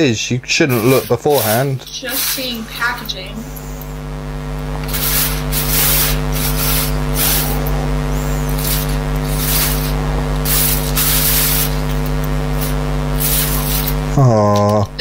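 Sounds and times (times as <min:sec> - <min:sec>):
steady electrical buzz: 0:00.0 - 0:15.0.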